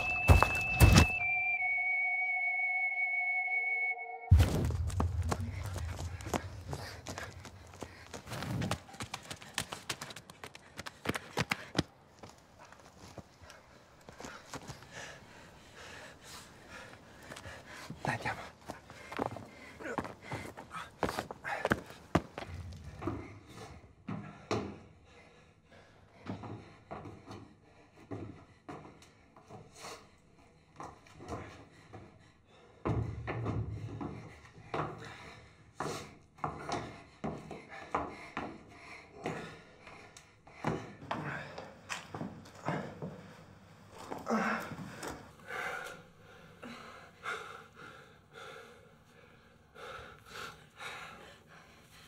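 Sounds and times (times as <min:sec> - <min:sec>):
people breathing hard: 0:04.8 - 0:52.0.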